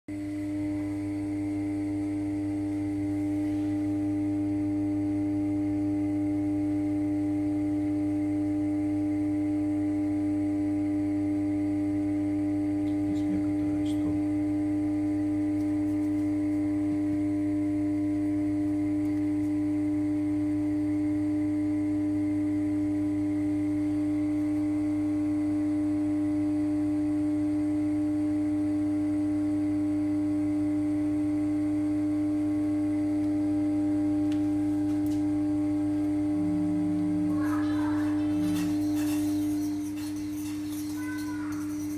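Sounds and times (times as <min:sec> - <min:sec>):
oven humming: 0:00.1 - 0:41.9.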